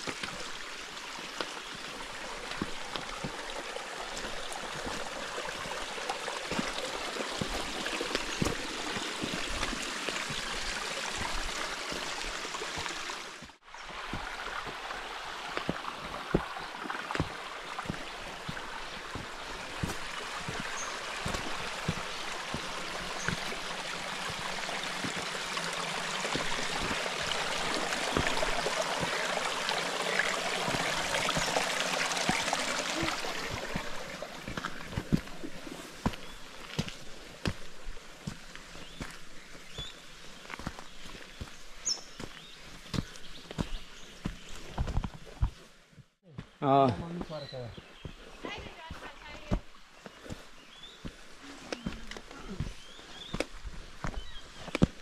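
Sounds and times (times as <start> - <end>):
creek water flowing over rocks: 0.0 - 45.8, 46.6 - 55.0.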